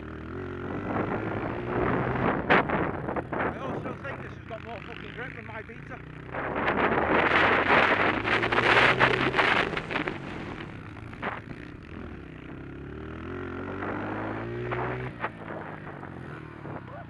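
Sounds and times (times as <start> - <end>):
motorcycle engine running under load: 0.0 - 17.0
wind buffeting: 0.6 - 12.6, 13.2 - 17.0.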